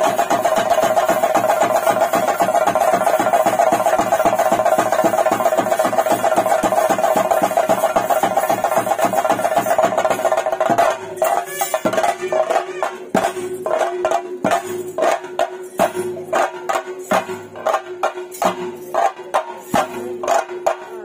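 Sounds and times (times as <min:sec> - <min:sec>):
drums and cymbals playing: 0:00.0 - 0:21.0.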